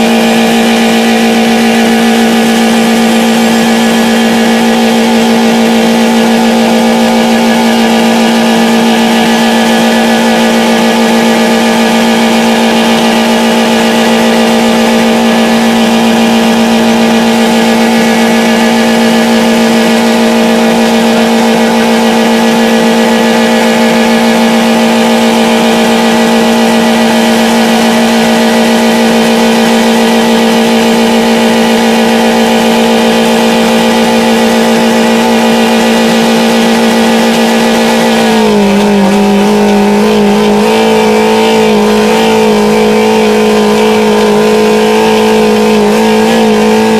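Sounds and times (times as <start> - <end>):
car engine at full revs: 0.0 - 46.9.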